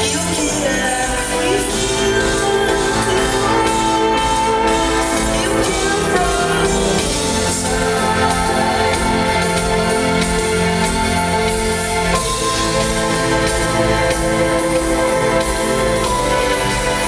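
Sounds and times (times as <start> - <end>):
live band playing chords: 0.0 - 17.0
person singing: 0.0 - 17.0.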